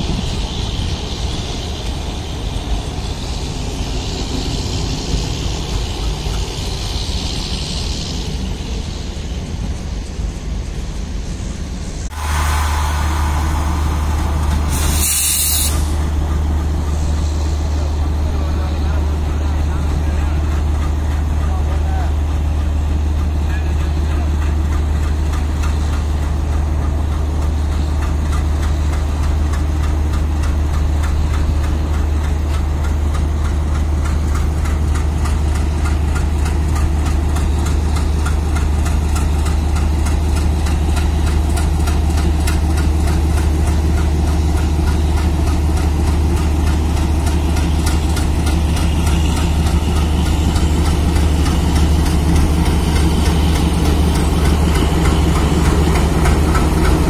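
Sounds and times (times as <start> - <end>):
locomotive diesel engine humming: 0.0 - 57.0.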